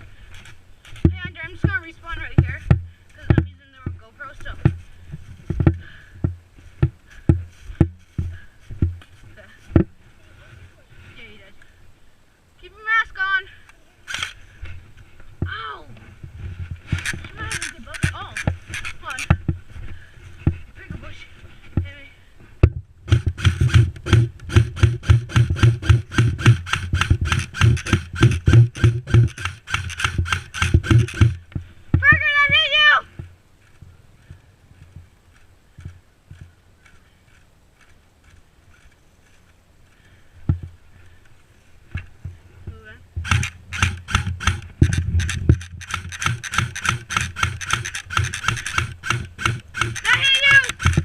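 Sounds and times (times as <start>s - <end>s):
rasping rustling thuds: 0.0s - 11.3s, 14.1s - 51.0s
quick footsteps on rough ground: 0.0s - 11.4s, 14.2s - 51.0s.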